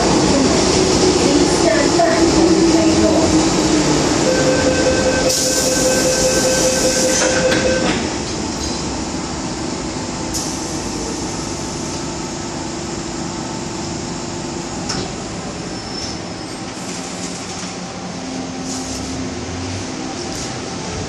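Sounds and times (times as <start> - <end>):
train carriage hum: 0.0 - 21.0.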